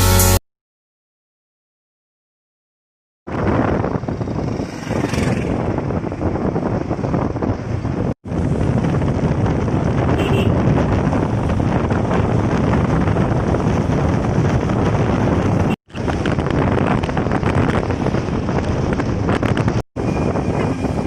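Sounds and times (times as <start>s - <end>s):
motorcycle engine and road noise: 3.3s - 21.0s
wind buffeting microphone: 3.3s - 21.0s.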